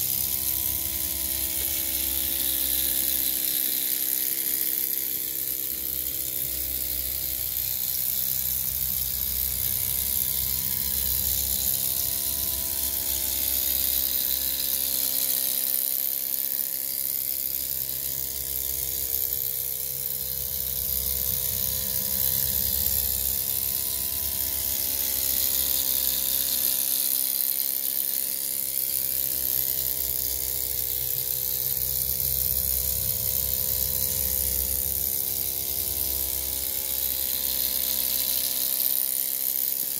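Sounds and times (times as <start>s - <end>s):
model steam engine buzzing whir: 0.0s - 39.9s.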